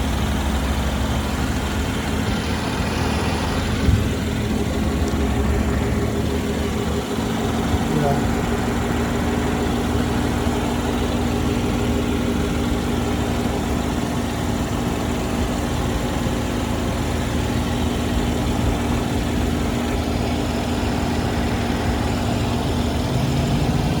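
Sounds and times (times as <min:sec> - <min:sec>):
car engine hum: 0:00.0 - 0:24.0.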